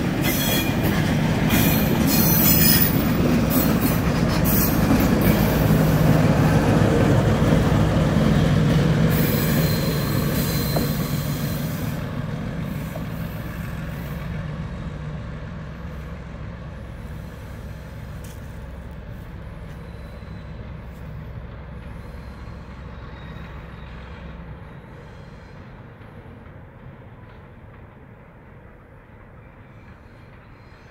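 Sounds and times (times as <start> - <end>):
locomotive diesel engine running: 0.0 - 27.2
wheel-on-rail rumble: 0.0 - 30.9.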